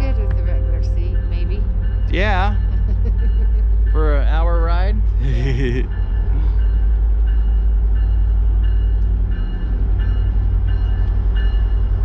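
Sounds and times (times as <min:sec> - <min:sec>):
locomotive engine rumbling: 0:00.0 - 0:12.0.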